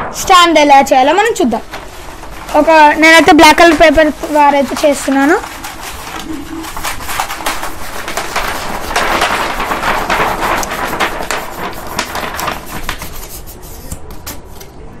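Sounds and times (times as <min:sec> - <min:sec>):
paper crackling as it is rolled: 0:00.0 - 0:14.6.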